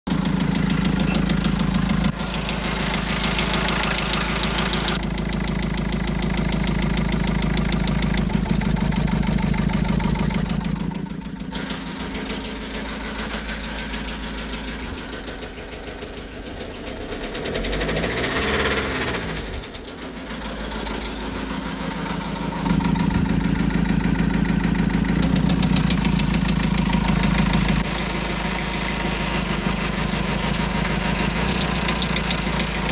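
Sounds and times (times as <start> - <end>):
diesel engine knocking: 0.1 - 32.9.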